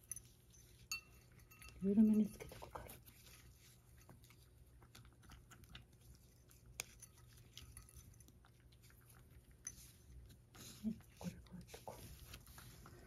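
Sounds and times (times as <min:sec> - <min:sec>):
cat crunching food: 0:00.0 - 0:13.0.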